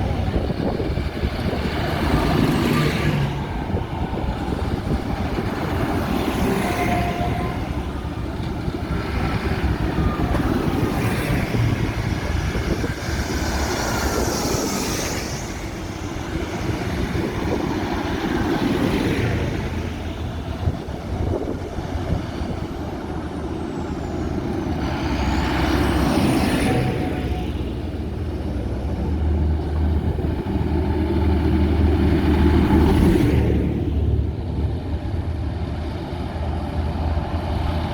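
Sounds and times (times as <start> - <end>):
tractors driving past: 0.0 - 37.9.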